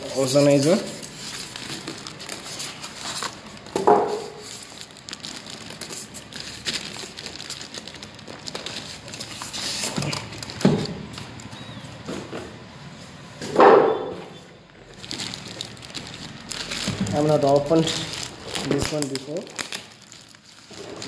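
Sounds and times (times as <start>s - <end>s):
foam packing rubbing and clicking: 0.0s - 12.7s, 14.8s - 21.0s
plastic wrapping crinkling: 0.0s - 13.4s, 14.0s - 21.0s.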